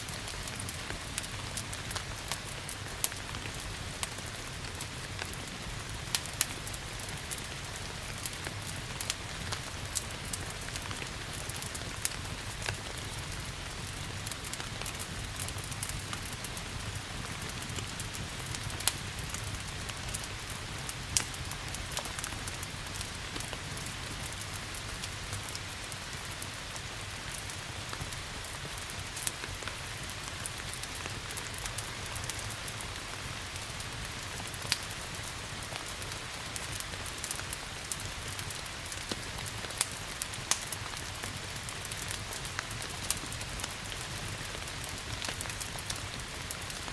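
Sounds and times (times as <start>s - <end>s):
steady rain hiss: 0.0s - 46.9s
wood fire crackling and popping: 0.0s - 46.9s.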